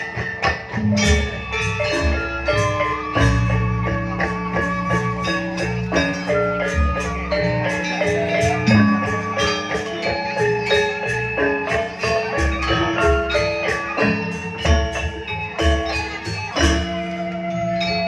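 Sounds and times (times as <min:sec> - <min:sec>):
gamelan ensemble: 0:00.0 - 0:18.0.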